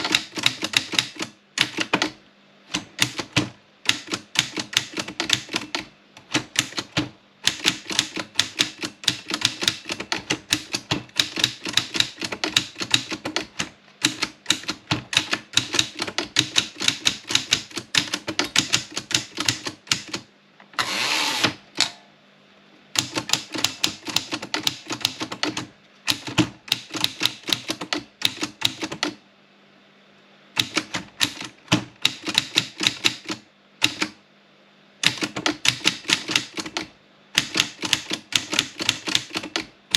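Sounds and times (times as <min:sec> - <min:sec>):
typewriter key strikes: 0:00.0 - 0:20.2, 0:23.0 - 0:29.2, 0:30.6 - 0:34.1, 0:35.0 - 0:39.7.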